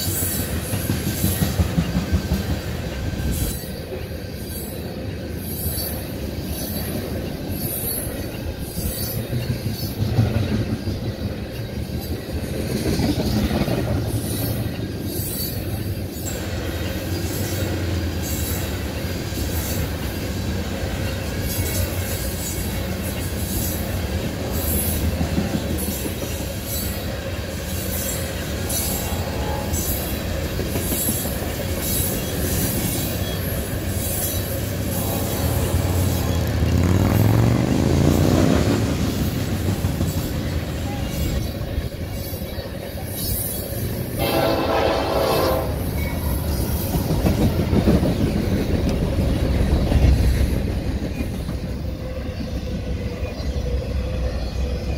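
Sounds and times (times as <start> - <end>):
wheels clicking over rail joints: 0.0 - 44.2, 45.8 - 53.6
train wheels rumbling on rail: 0.0 - 54.9.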